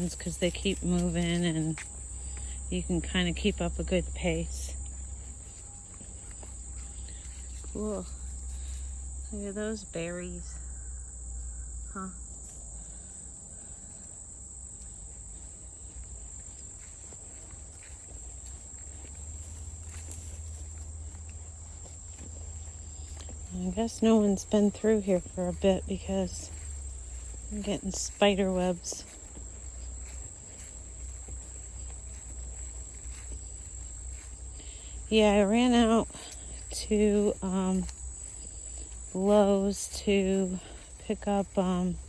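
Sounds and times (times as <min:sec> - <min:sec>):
faint rustles and ticks: 0:00.0 - 0:10.8, 0:11.9 - 0:42.0
insects trilling: 0:00.0 - 0:42.0.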